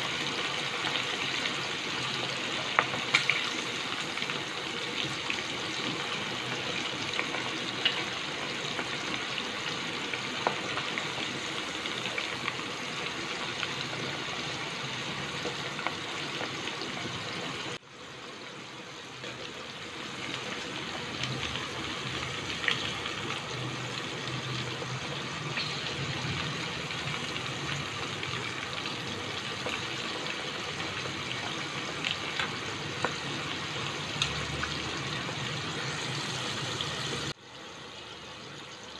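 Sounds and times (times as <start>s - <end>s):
prawns deep-frying in oil: 0.0s - 38.9s.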